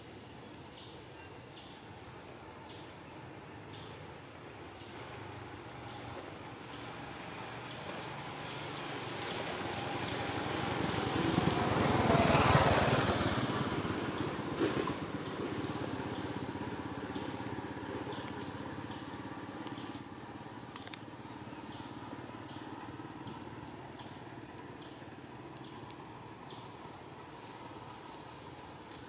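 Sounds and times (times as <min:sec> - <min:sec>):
passing vehicle engine: 0:04.9 - 0:29.0.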